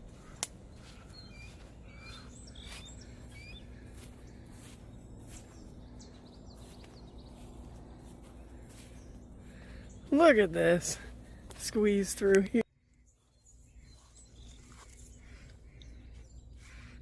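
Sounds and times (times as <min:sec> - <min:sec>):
faint outdoor background noise: 0:00.0 - 0:17.0
small birds chirping: 0:00.0 - 0:17.0.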